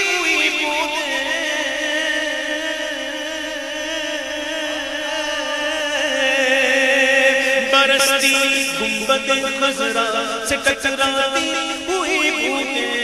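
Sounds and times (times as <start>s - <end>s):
person chanting with vibrato: 0.0s - 13.0s.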